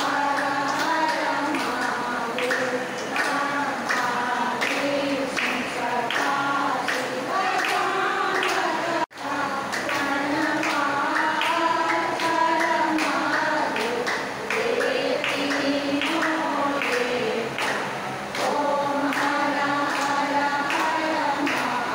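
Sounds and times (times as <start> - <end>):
women singing a hymn: 0.0 - 21.9.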